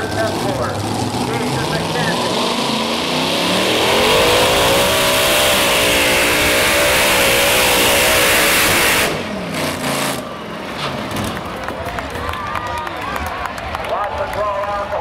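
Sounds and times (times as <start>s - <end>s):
pulling tractor engines at full throttle: 0.0s - 15.0s.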